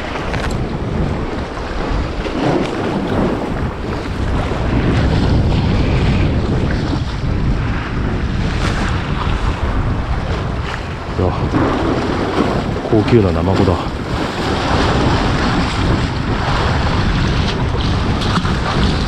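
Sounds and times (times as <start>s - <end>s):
sea washing against breakwater: 0.0s - 19.0s
wind buffeting microphone: 0.0s - 19.0s.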